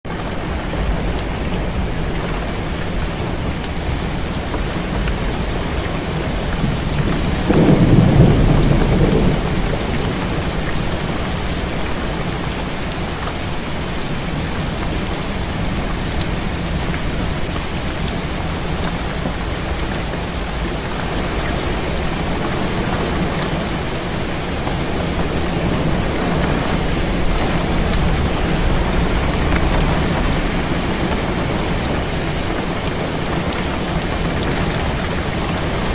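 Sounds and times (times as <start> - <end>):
heavy rain on a window: 0.1 - 35.9
low rumble of thunder: 0.3 - 13.2, 14.1 - 35.9.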